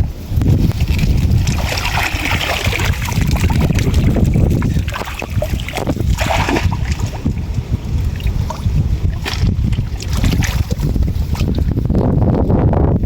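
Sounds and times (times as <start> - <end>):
wind buffeting microphone: 0.0 - 13.0
water splashing: 0.7 - 11.8.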